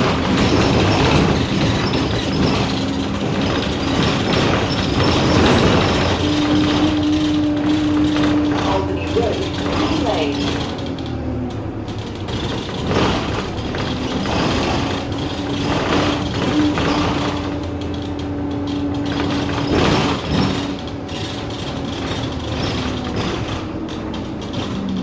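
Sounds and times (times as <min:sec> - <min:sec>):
bus engine humming: 0:00.0 - 0:25.0
bus fittings squeaking and rattling: 0:00.0 - 0:25.0.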